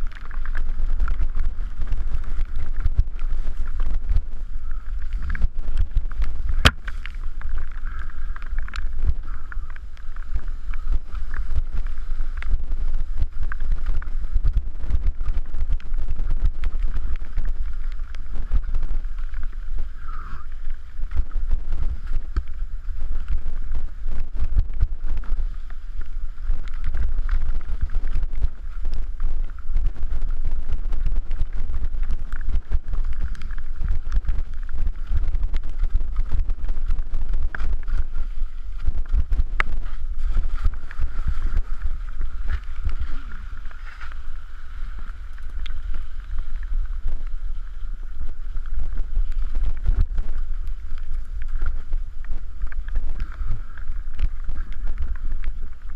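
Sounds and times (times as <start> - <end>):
bike rattling over rocks: 0.0 - 55.9
wind rumbling on microphone: 0.0 - 55.9.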